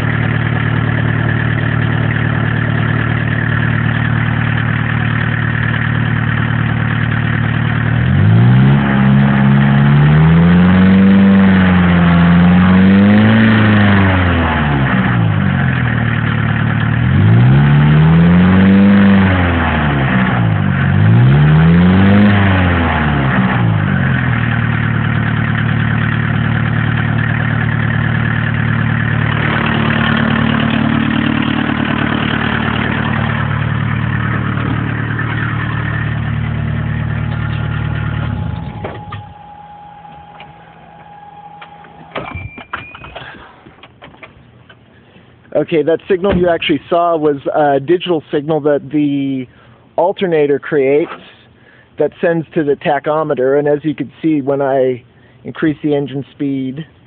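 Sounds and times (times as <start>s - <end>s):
diesel engine idling and revving: 0.0s - 57.0s.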